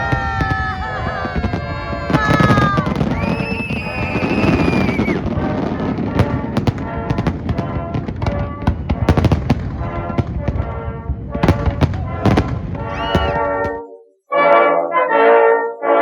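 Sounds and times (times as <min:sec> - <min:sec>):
fireworks bangs and pops: 0:00.0 - 0:13.8
music: 0:00.0 - 0:16.0.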